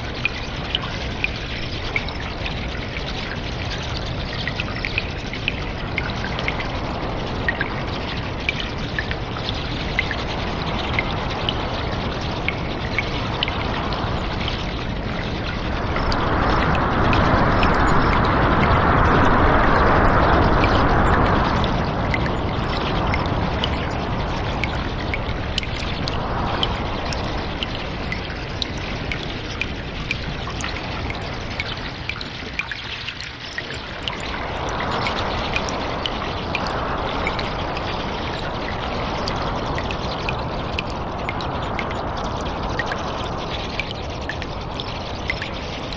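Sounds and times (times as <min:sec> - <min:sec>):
small water drips: 0:00.0 - 0:45.9
water trickling and pouring: 0:00.0 - 0:45.9.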